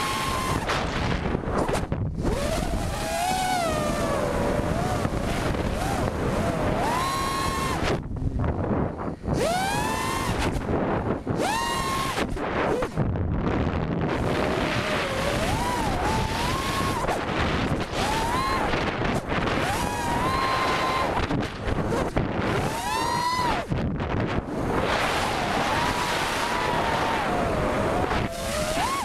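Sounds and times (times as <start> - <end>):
drone motors whining: 0.0 - 29.0
wind rushing over microphone: 0.0 - 29.0.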